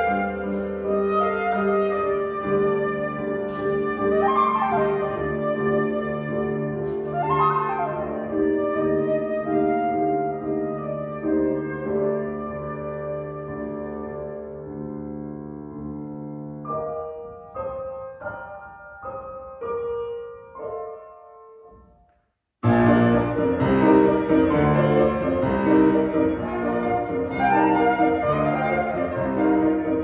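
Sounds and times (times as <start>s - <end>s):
grand piano playing: 0.0s - 22.0s, 22.6s - 30.0s.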